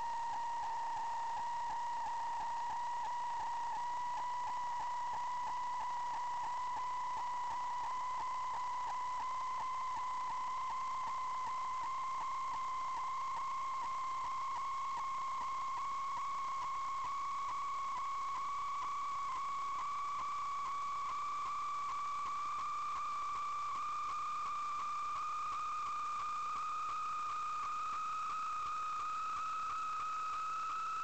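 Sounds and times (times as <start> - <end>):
electronic whine: 0.0 - 31.0.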